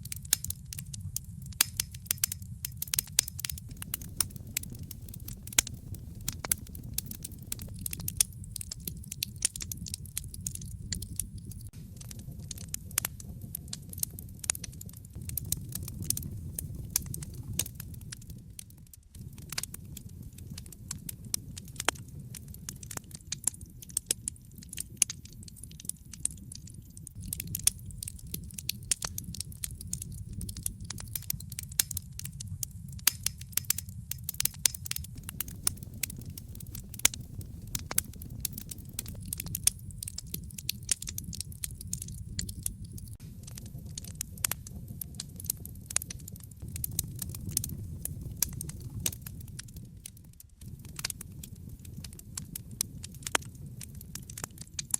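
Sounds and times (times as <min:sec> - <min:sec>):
fire crackling and popping: 0:00.0 - 0:54.9
low rumble of flames: 0:00.0 - 0:54.9.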